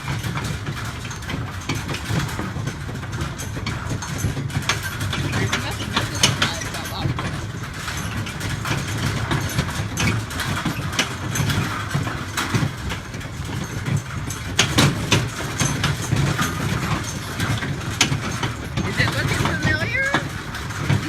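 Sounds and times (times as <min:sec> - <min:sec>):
knocks and rattles: 0:00.0 - 0:21.0
vehicle engine running: 0:00.0 - 0:21.0.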